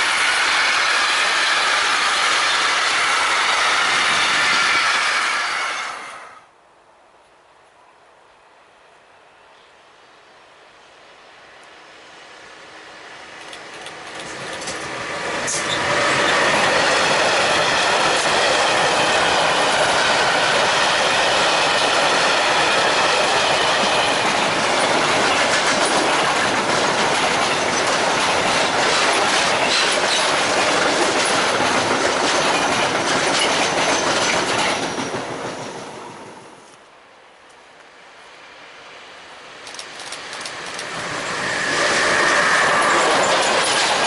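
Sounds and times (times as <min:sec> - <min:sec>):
train wheels rumbling on rails: 0:00.0 - 0:06.4, 0:11.4 - 0:36.8, 0:39.2 - 0:44.0.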